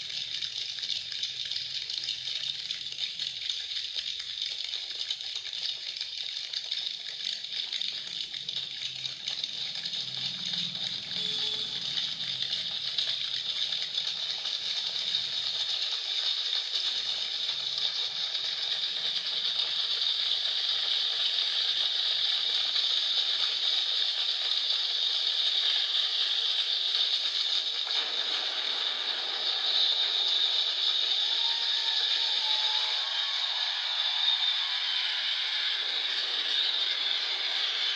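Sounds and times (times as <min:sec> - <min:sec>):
fingers making rain patter: 0:00.0 - 0:35.2.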